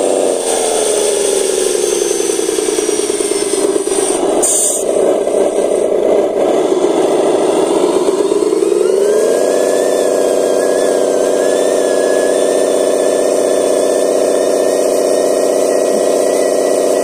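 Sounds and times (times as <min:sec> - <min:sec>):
toy truck motor whirring: 0:00.0 - 0:17.0.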